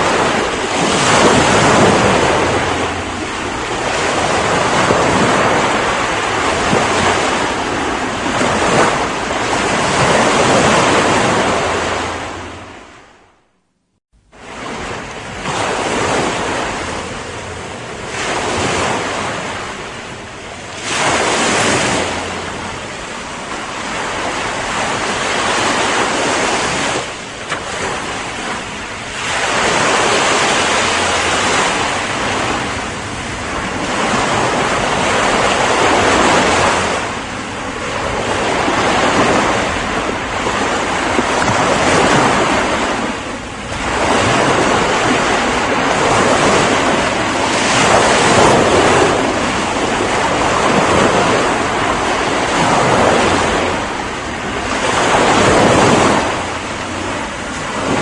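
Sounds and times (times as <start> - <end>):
ocean waves breaking: 0.0 - 13.5, 14.2 - 58.0.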